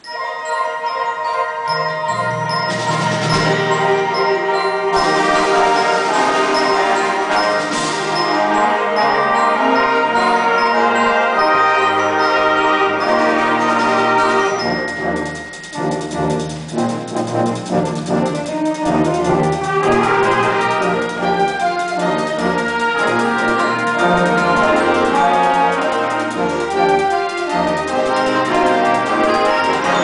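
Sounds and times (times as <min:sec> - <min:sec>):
brass instruments: 0:00.0 - 0:30.0
concert band playing: 0:01.6 - 0:30.0.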